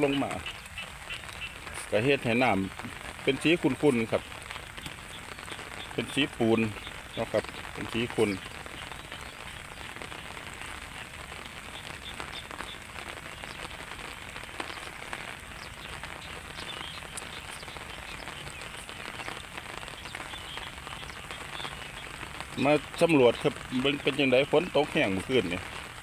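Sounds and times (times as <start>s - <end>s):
light rain pattering: 0.0s - 26.0s.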